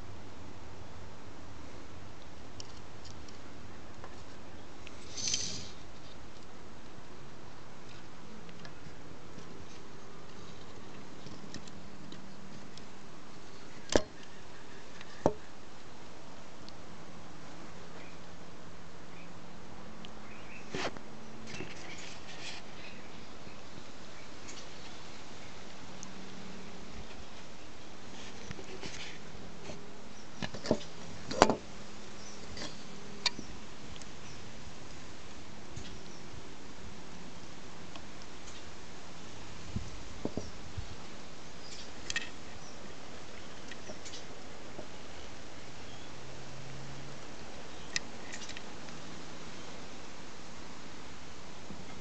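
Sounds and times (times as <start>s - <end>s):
low steady hum: 0.0s - 52.0s
steady hiss: 0.0s - 52.0s.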